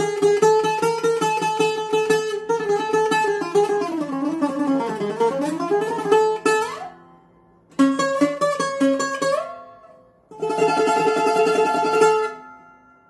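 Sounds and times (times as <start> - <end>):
bouzouki picked with plectrum: 0.0 - 13.0.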